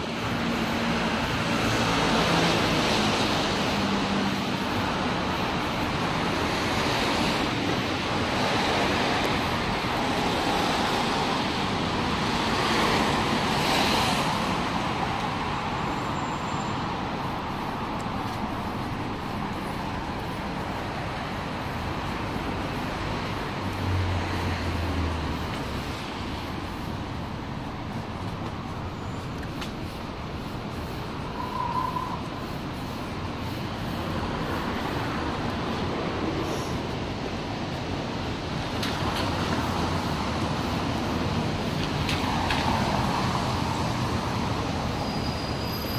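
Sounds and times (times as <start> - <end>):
tyres hissing on wet road: 0.0 - 45.9.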